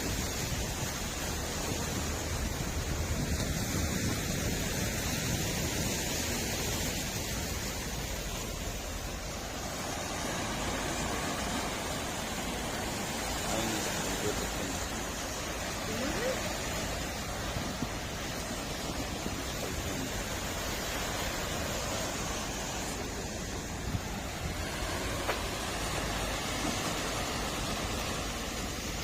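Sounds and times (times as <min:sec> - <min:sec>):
sea waves rushing: 0:00.0 - 0:29.0
wind: 0:00.0 - 0:29.0.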